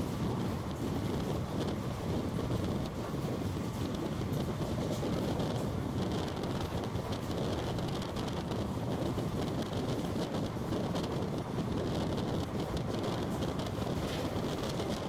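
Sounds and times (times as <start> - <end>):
rushing air: 0.0 - 15.0
train wheels rumbling on rails: 0.0 - 15.0.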